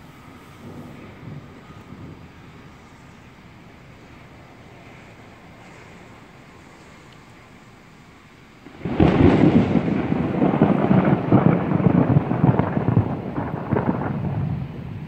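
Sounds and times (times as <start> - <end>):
rolling thunder: 0.0 - 6.6, 8.6 - 15.0.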